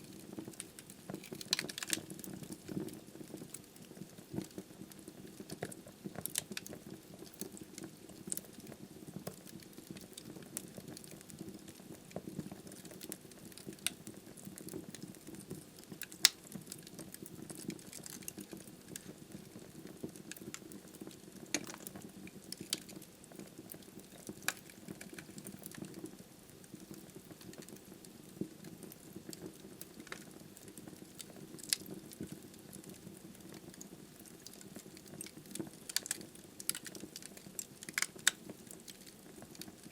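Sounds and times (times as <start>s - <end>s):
hiss and flutter of flames: 0.0s - 39.9s
wood fire crackling and popping: 0.0s - 39.9s.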